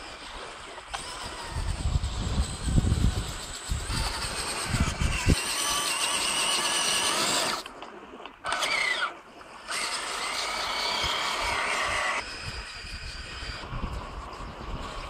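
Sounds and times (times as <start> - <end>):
electric motor whining: 0.8 - 7.7, 8.5 - 15.0.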